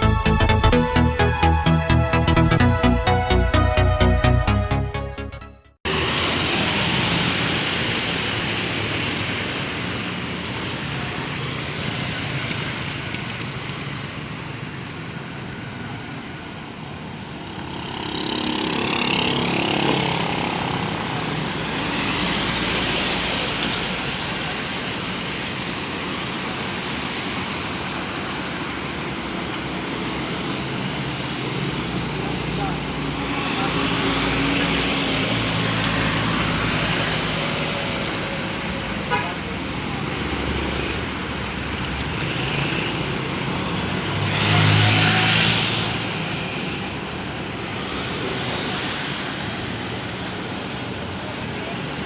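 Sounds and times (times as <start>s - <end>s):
road traffic noise: 0.0s - 52.0s.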